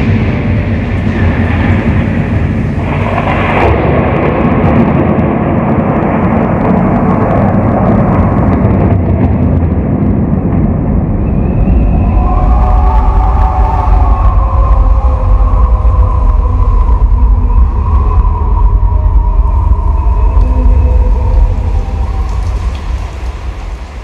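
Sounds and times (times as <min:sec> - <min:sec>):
loud rumbling noise: 0:00.0 - 0:24.0.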